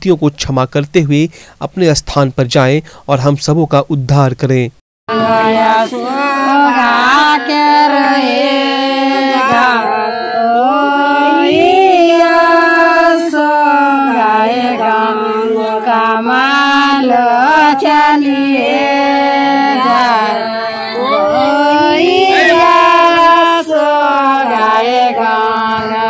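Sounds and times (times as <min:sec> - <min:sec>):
women singing devotional song: 0:05.1 - 0:26.0.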